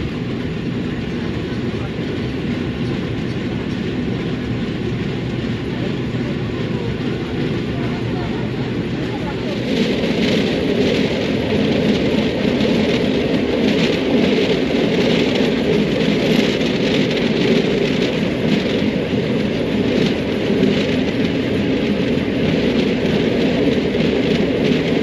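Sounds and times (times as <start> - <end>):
train wheels rumbling over rails: 0.0 - 25.0.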